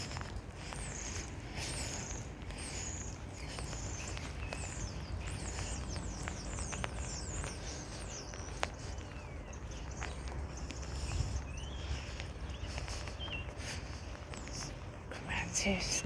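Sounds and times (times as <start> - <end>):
footsteps on wet ground: 0.0 - 16.0
rain pattering: 0.0 - 16.0
small bird chirping: 0.0 - 16.0.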